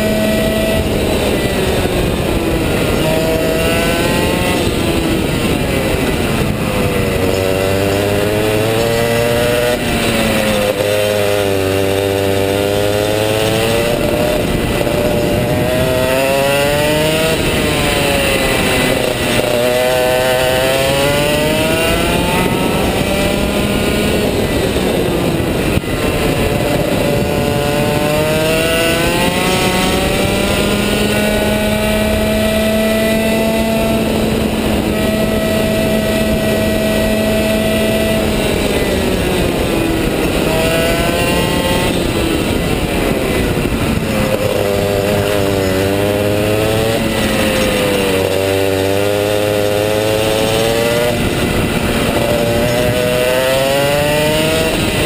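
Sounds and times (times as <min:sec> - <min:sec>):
kart engine at racing speed: 0:00.0 - 0:55.0.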